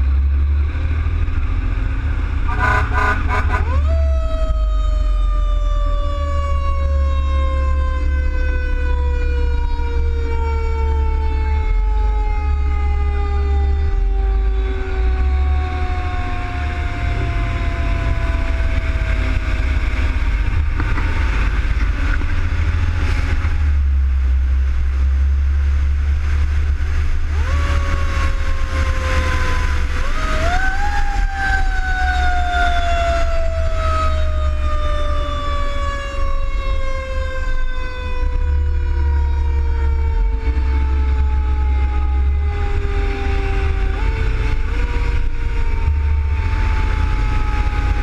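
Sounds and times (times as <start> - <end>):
road noise: 0.0 - 48.0
truck engine rumble: 0.0 - 48.0
fire engine siren: 0.2 - 24.4, 25.2 - 48.0.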